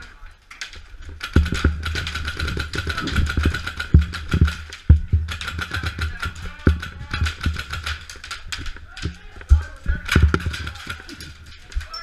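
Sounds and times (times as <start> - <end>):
airsoft guns firing bursts: 1.0 - 12.0
heavier thuds: 1.1 - 11.7.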